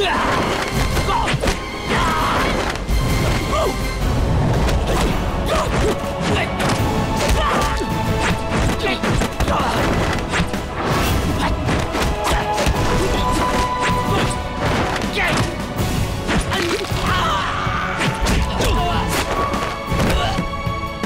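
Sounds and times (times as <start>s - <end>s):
dramatic action music: 0.0s - 21.0s.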